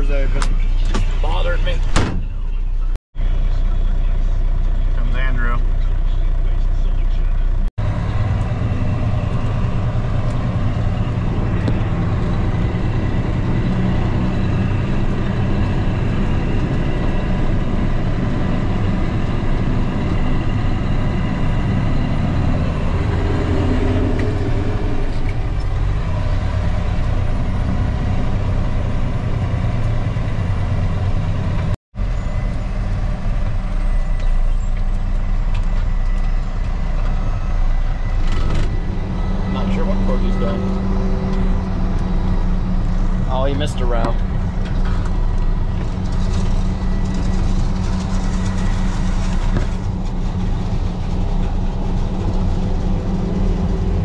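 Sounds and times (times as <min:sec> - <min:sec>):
truck engine hum: 0:00.0 - 0:54.0.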